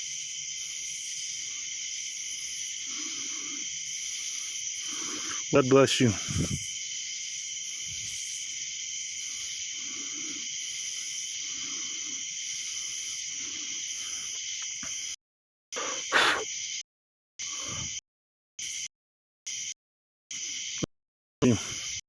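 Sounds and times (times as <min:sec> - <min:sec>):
night insects chorus: 0:00.0 - 0:15.2, 0:15.8 - 0:16.8, 0:17.4 - 0:18.0, 0:18.6 - 0:18.9, 0:19.5 - 0:22.0.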